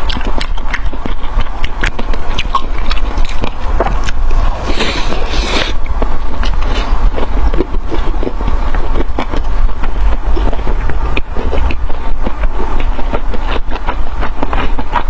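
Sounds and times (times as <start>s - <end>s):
chewing and crunching food: 0.0s - 15.0s
low rumble: 0.1s - 15.0s.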